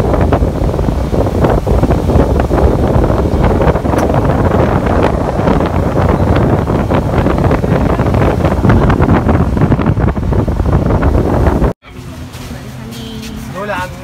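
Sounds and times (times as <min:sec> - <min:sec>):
wind buffeting microphone: 0:00.0 - 0:11.8
motorboat running: 0:00.0 - 0:14.0.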